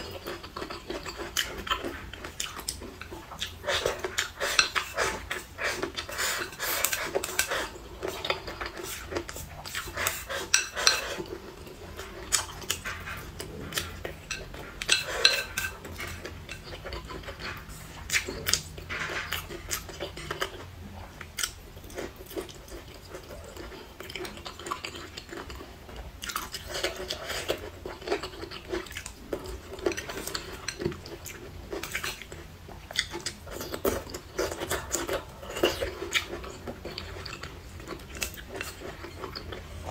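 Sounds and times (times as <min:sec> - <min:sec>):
chewing and sucking food: 0:00.0 - 0:39.9.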